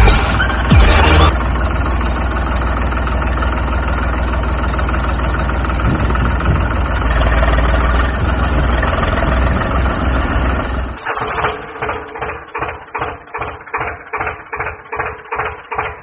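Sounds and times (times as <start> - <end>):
diesel tractor engine knocking: 0.0 - 16.0.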